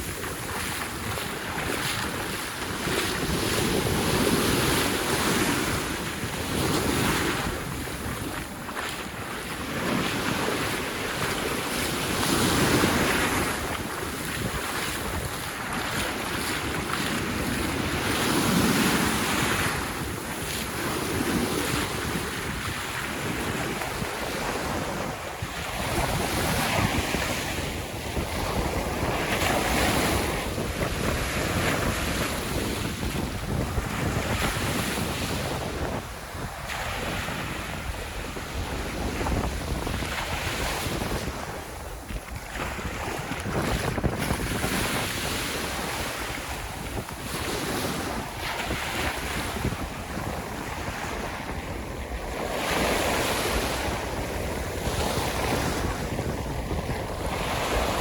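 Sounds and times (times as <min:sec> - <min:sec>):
sea waves breaking on shore: 0:00.0 - 0:58.0
wind buffeting microphone: 0:00.0 - 0:58.0.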